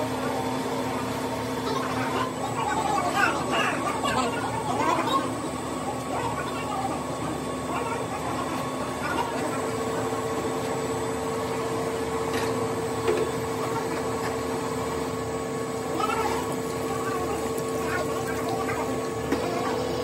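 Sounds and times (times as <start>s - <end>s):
extrusion machine humming: 0.0s - 20.0s.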